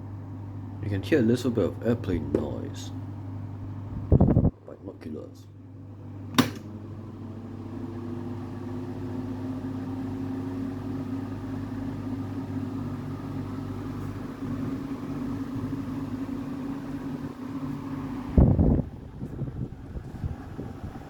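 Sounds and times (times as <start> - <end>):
electric fan motor humming: 0.0 - 21.0.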